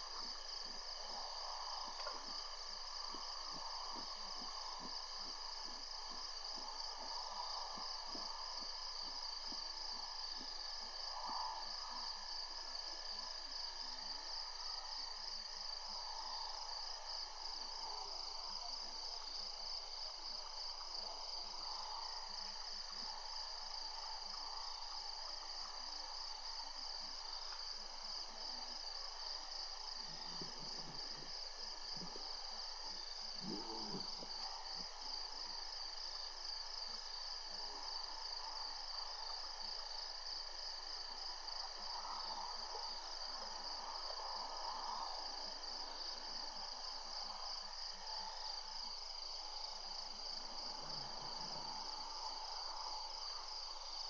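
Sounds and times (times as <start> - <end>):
faint insect chirring: 0.0 - 54.0
insects trilling: 0.0 - 54.0.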